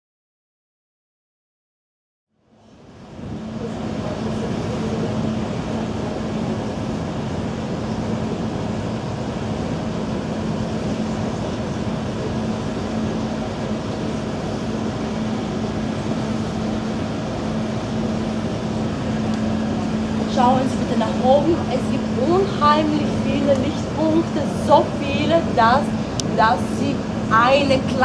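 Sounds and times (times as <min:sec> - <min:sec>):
low even drone: 0:02.4 - 0:28.0
ventilation air rushing: 0:02.5 - 0:28.0.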